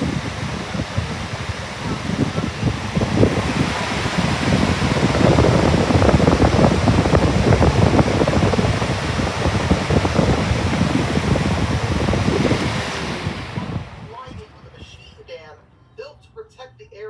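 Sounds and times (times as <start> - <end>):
rushing air with gusty buffeting: 0.0 - 15.1.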